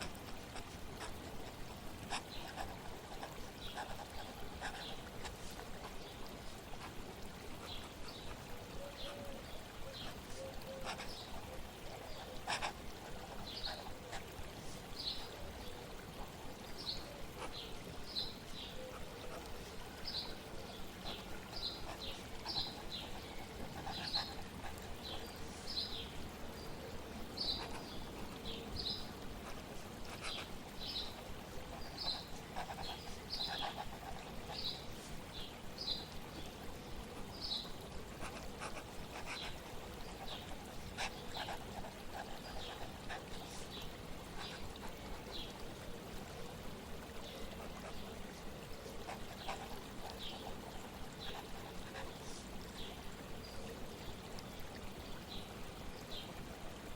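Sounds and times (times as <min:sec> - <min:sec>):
flowing water: 0:00.0 - 0:56.9.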